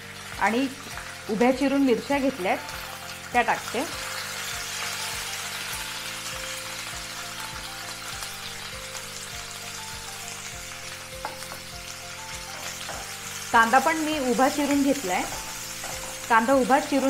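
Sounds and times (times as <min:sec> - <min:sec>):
onions sizzling in hot oil: 0:00.0 - 0:17.0
soft background music with beat: 0:00.0 - 0:17.0.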